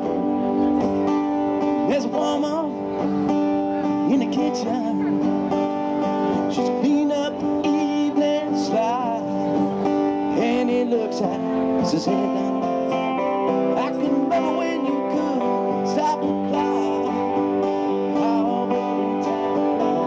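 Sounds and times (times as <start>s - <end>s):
bass guitar: 0.0s - 20.0s
electric guitars: 0.0s - 20.0s
man singing: 1.6s - 20.0s.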